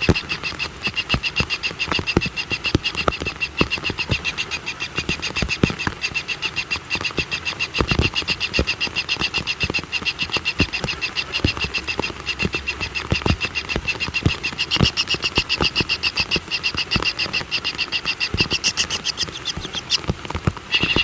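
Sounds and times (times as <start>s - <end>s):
high pulsed animal calls: 0.0s - 21.0s.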